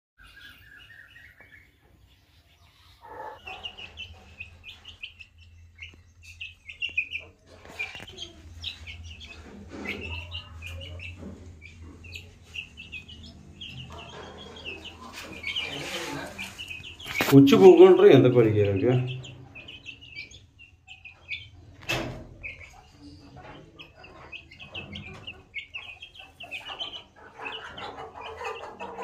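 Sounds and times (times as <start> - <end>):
chicks peeping: 0.2 - 29.0.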